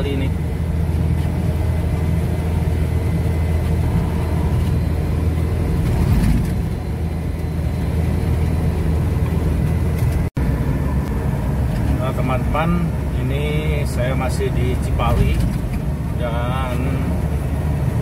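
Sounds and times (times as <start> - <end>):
jeep engine drone: 0.0 - 18.0
road and wind noise: 0.0 - 18.0.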